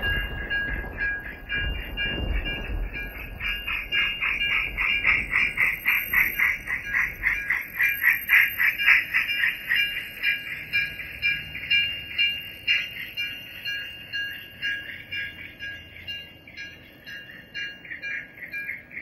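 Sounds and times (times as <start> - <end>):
model steam locomotive chuffing: 0.0 - 19.0.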